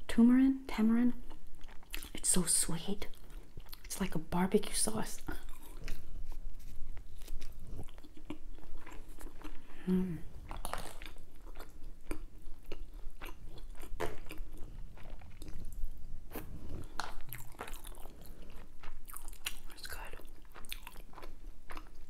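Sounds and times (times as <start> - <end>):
person chewing food: 1.2 - 2.2, 3.0 - 4.0, 5.2 - 22.0.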